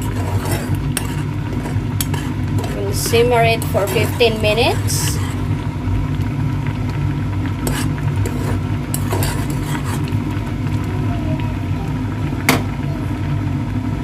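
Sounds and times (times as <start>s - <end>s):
pot boiling on stove: 0.0s - 14.0s.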